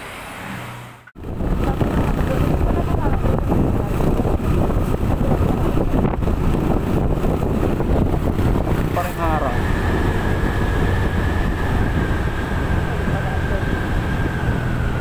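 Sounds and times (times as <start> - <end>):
road noise: 0.0 - 15.0
motorcycle running: 0.9 - 15.0
wind buffeting microphone: 1.2 - 15.0.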